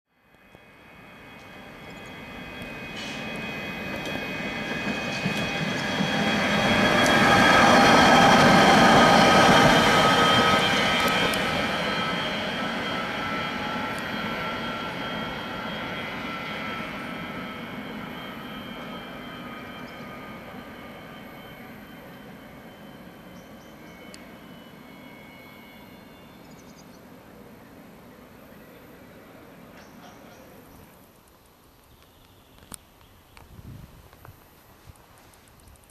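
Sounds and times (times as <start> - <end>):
tram rolling on rails: 0.2 - 31.6.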